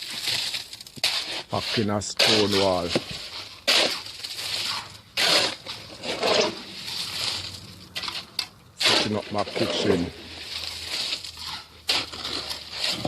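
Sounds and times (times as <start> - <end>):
wet concrete scraping and splattering: 0.0 - 13.0.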